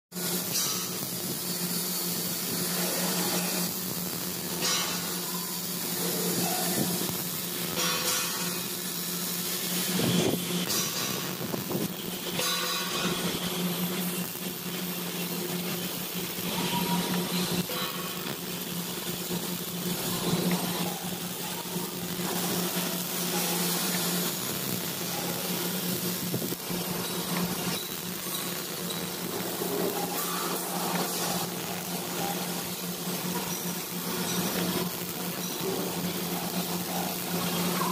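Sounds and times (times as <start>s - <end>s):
arc welding crackling hiss: 0.1s - 37.9s.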